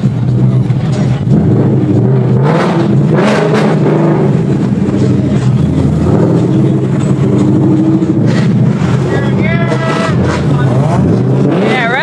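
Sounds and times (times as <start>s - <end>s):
loud car engine exhaust revving: 0.0s - 12.0s.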